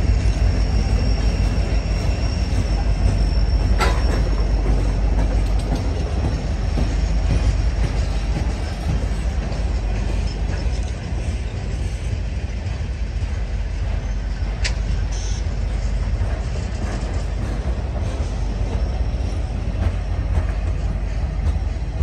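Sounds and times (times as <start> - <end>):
train wheels rumbling and clattering: 0.0 - 22.0.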